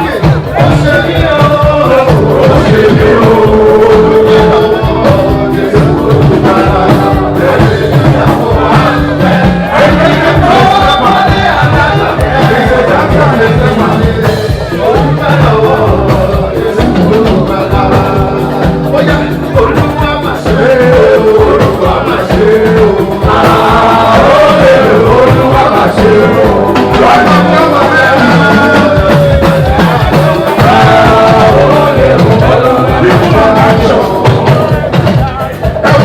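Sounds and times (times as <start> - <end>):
loud music with steady beat: 0.0 - 36.0
person singing: 0.0 - 36.0.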